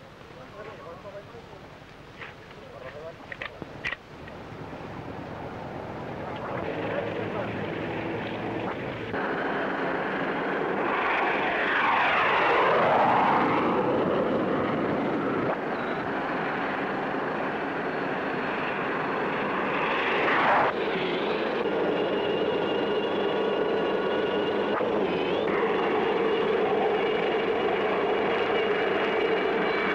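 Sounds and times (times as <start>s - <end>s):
helicopter turbine whine: 4.1s - 29.9s
aircraft engine roar passing: 4.2s - 29.9s
aircraft passing with falling sweep: 4.7s - 29.9s.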